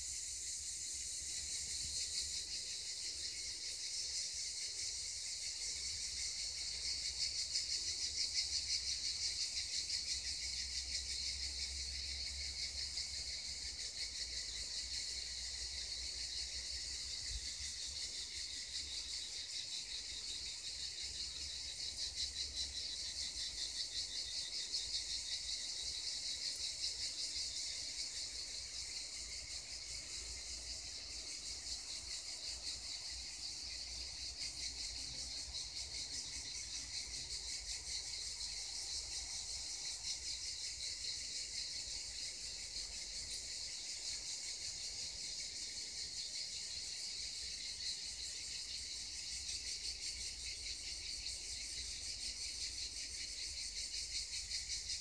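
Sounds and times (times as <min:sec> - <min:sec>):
cicadas singing: 0:00.0 - 0:55.0.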